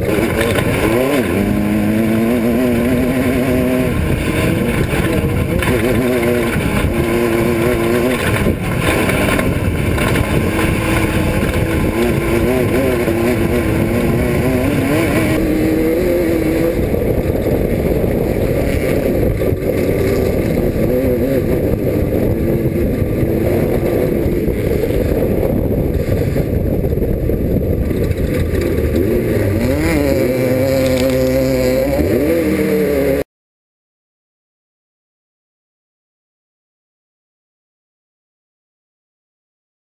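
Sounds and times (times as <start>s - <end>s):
race car engine revving: 0.0s - 33.2s.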